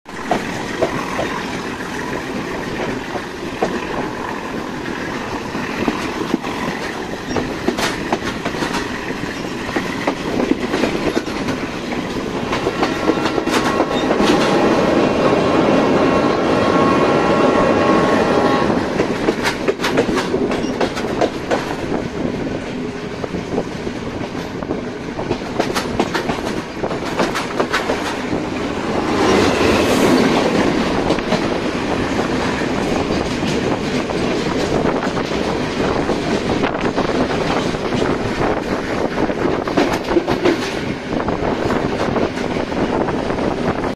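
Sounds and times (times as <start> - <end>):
wheels clacking over rail joints: 0.1 - 16.6, 18.8 - 22.0, 22.7 - 43.1
diesel locomotive passing: 0.1 - 43.9.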